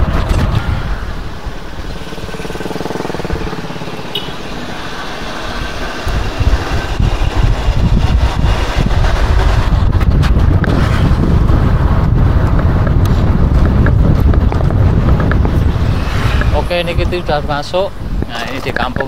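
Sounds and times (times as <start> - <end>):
road noise: 0.0 - 19.0
wind rumbling on microphone: 0.0 - 19.0.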